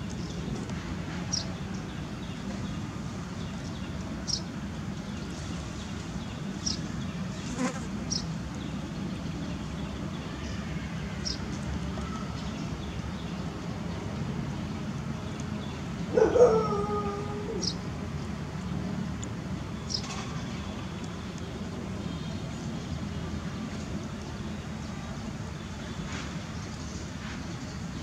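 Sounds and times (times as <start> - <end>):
steady outdoor hum: 0.0 - 28.0.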